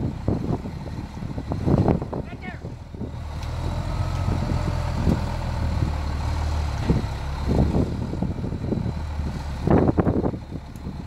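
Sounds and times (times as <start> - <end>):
diesel engine pulling under load: 0.0 - 11.0.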